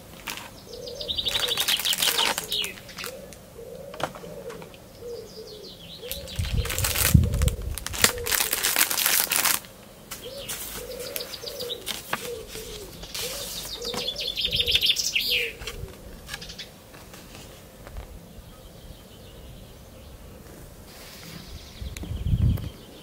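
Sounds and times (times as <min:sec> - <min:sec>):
birds cooing: 0:00.0 - 0:23.0.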